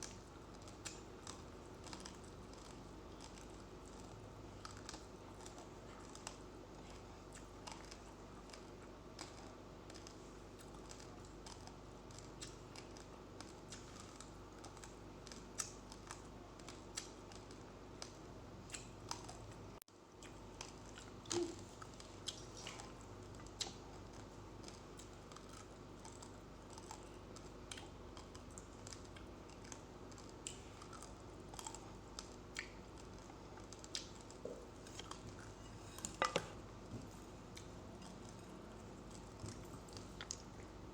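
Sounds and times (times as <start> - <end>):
low background hum: 0.0 - 40.9
rice grains being chewed: 0.0 - 40.9.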